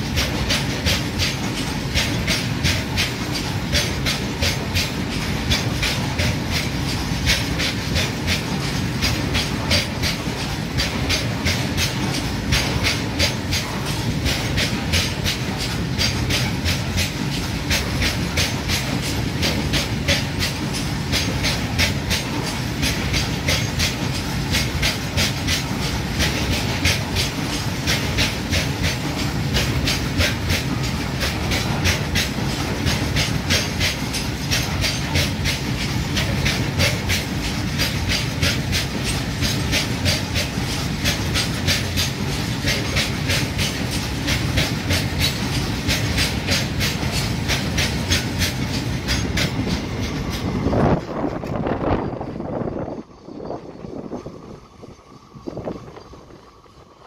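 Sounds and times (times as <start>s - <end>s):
clickety-clack of wheels on rails: 0.0s - 57.0s
freight train low rumble: 0.0s - 57.0s.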